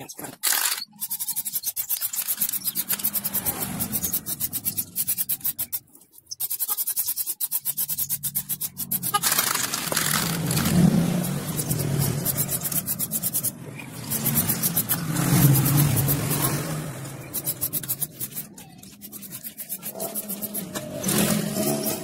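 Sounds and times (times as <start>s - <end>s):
wheel ticking as turned: 0.4s - 22.0s
rubbing: 0.5s - 22.0s
spray can hissing: 0.9s - 22.0s.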